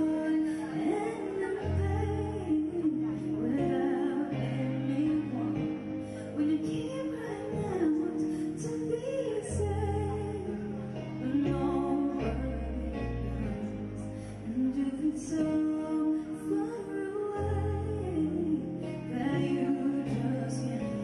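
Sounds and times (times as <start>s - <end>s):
instrumental backing track: 0.0s - 21.0s
woman singing pop ballad: 0.0s - 21.0s.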